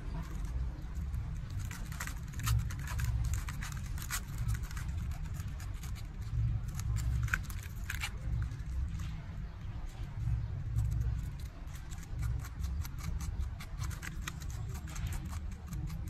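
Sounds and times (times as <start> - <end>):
knife scraping pineapple: 0.0 - 8.8, 10.8 - 16.0
low rumble: 0.0 - 16.0.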